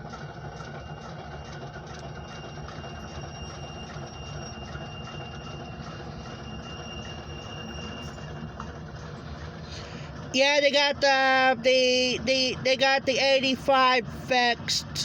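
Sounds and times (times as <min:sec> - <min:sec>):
locomotive engine rumbling: 0:00.0 - 0:15.0.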